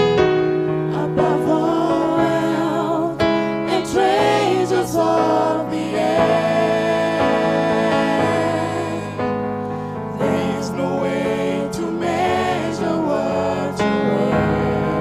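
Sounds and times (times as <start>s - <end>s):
keyboard accompaniment: 0.0s - 15.0s
voices singing gospel: 0.8s - 15.0s.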